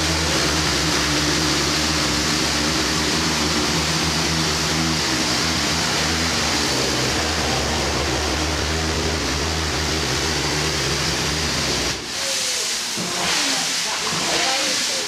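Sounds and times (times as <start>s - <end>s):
diesel locomotive idling: 0.0s - 12.9s.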